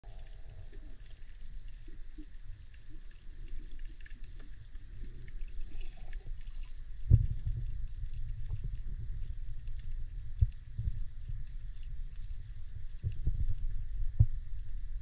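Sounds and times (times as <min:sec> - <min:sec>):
underwater rumble: 0:00.0 - 0:15.0
faint crackling clicks: 0:00.1 - 0:15.0.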